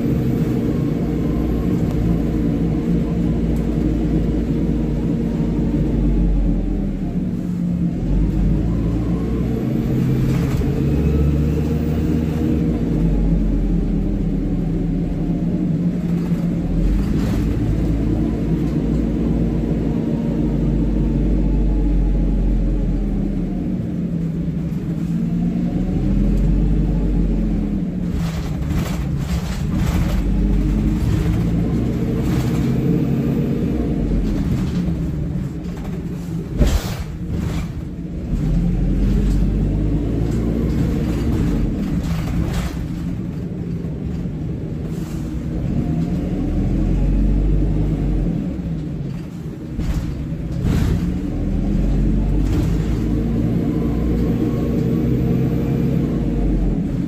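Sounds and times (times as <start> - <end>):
bus body knocking and rattling: 0.0 - 20.8, 22.8 - 57.0
bus engine revving: 0.0 - 57.0.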